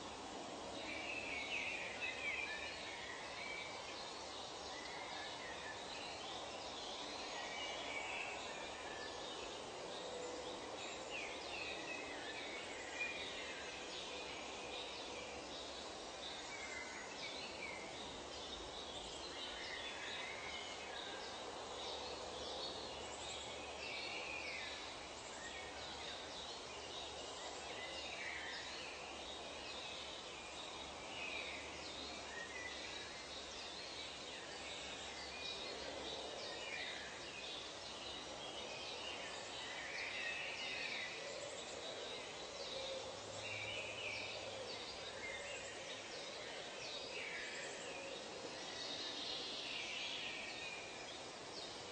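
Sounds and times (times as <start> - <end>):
steady background hiss: 0.0 - 51.9.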